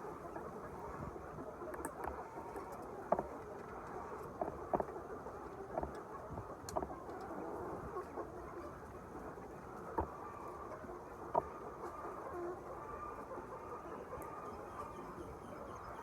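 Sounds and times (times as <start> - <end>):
flock of chickens: 0.0 - 16.0.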